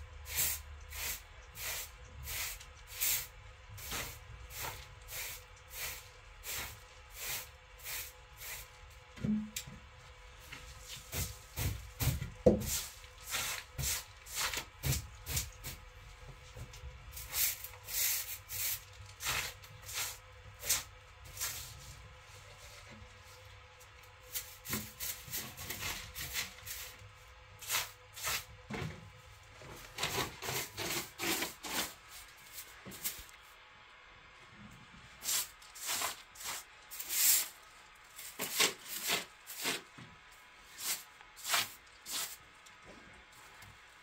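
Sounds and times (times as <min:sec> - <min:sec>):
hand broom sweeping floor: 0:00.0 - 0:09.5, 0:10.3 - 0:33.6, 0:35.1 - 0:43.8.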